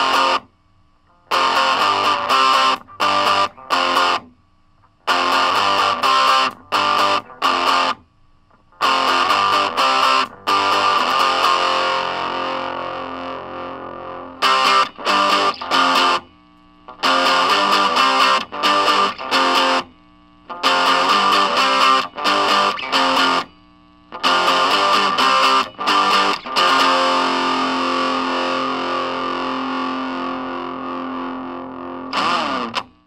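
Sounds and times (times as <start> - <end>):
distorted electric guitar chords: 0.0 - 0.5, 1.1 - 33.0.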